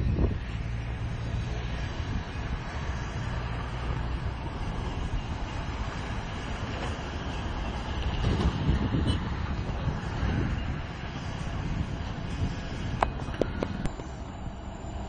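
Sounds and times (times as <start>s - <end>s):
diesel locomotive engine droning: 0.0s - 15.0s.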